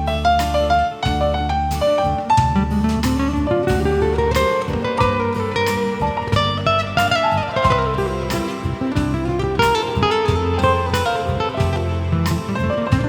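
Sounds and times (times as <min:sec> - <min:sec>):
guitar picking: 0:00.0 - 0:13.0
low bass notes: 0:00.0 - 0:13.0.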